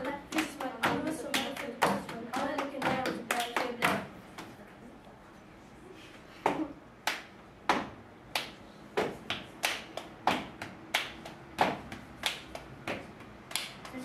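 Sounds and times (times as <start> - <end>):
hands clapping a steady beat: 0.0 - 4.5, 7.0 - 14.0.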